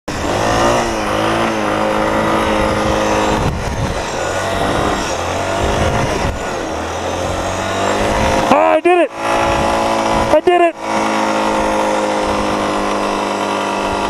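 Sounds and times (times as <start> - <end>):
atv engine revving: 0.1 - 14.0.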